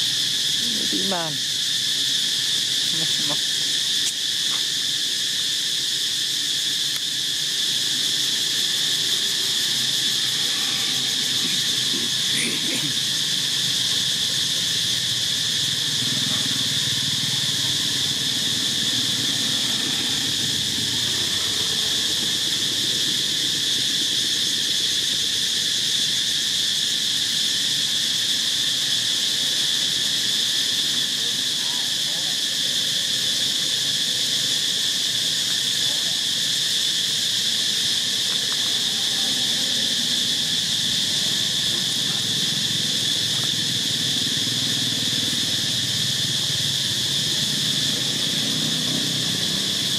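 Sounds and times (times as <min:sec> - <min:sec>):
insect chorus droning: 0:00.0 - 0:49.9.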